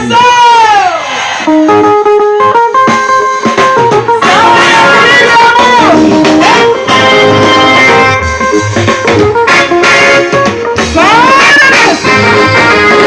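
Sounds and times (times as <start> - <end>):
plucked guitar music: 1.5 - 13.0.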